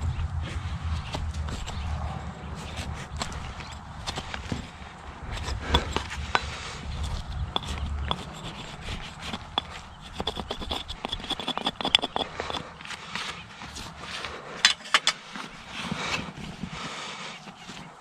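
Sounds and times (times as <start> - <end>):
hand tools scraping hoof: 0.5 - 18.0.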